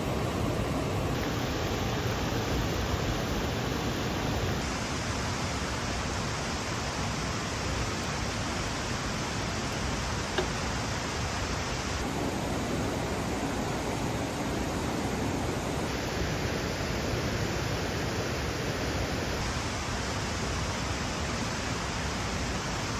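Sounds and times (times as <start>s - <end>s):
stream water rushing: 0.0s - 22.9s.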